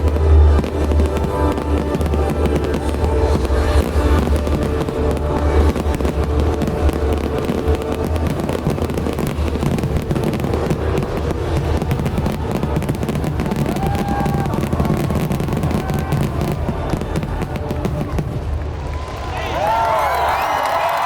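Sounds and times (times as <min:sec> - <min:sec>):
fireworks crackling and booming: 0:00.0 - 0:21.0.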